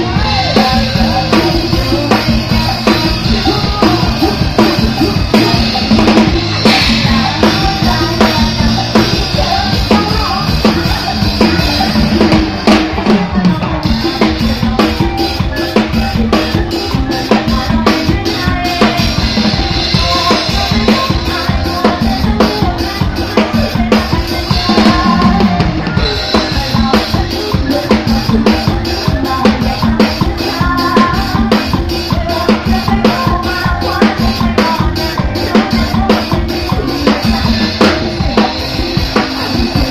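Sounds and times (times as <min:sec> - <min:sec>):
drum kit beat: 0:00.0 - 0:39.9
keyboards: 0:00.0 - 0:39.9
loud dance music: 0:00.0 - 0:39.9.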